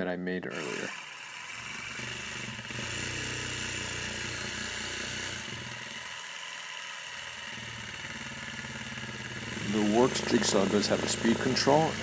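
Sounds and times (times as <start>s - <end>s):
pulsing massager motor: 0.5s - 12.0s.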